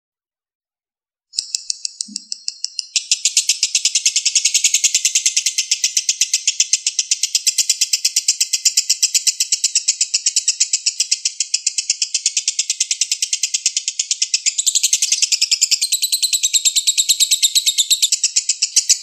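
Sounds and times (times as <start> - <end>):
lovebird chattering: 1.4 - 19.0.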